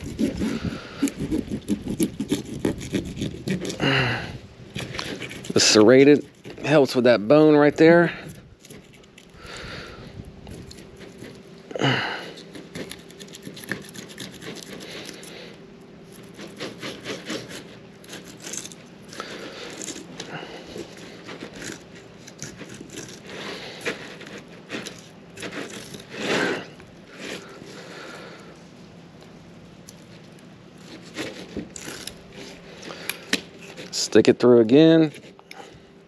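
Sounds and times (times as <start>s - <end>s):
knife scraping fish scales: 0.0s - 28.6s, 29.8s - 34.2s.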